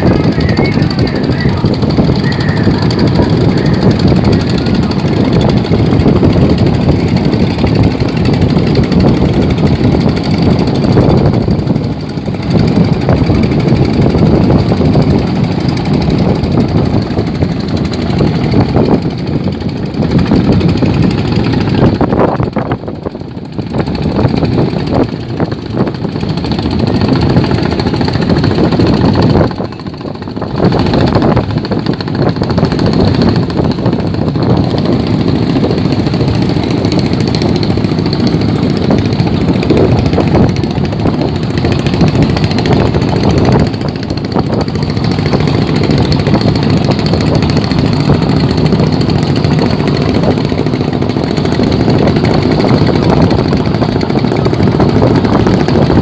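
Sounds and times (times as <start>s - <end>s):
boat engines running: 0.0s - 56.0s.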